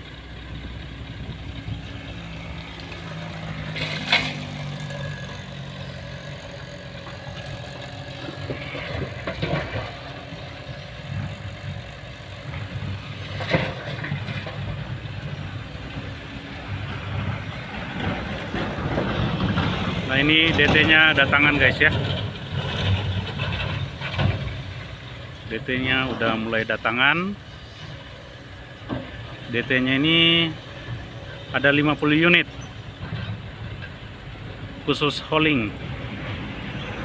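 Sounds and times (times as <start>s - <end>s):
diesel engines running: 0.0s - 37.0s.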